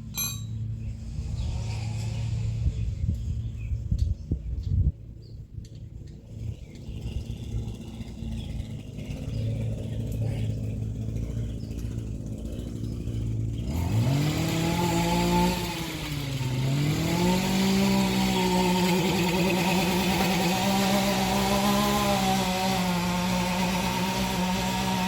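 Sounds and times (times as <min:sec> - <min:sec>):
engine revving: 0:00.8 - 0:03.0, 0:06.2 - 0:25.0.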